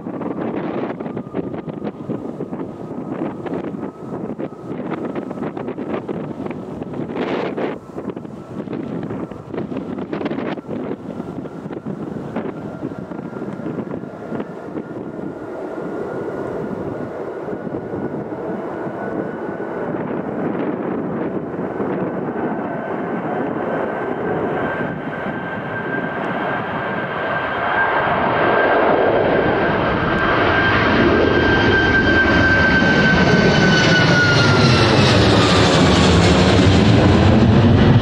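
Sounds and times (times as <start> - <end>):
jet engines passing close by: 0.0 - 38.0.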